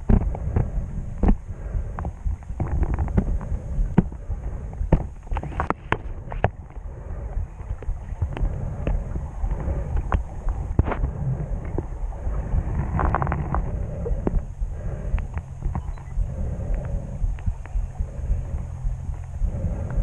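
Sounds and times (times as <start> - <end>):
underwater clicks and crackles: 0.0 - 20.0
underwater low rumble: 0.0 - 20.0.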